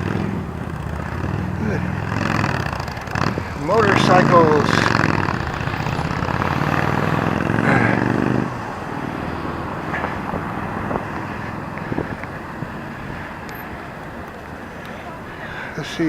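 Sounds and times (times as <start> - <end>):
motorcycle engine running: 0.0 - 15.2
street traffic: 0.0 - 16.0.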